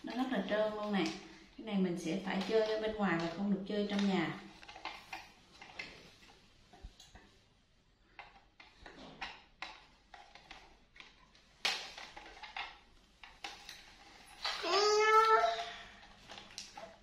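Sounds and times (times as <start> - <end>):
small objects clicking and knocking: 0.0 - 7.4, 8.0 - 17.0.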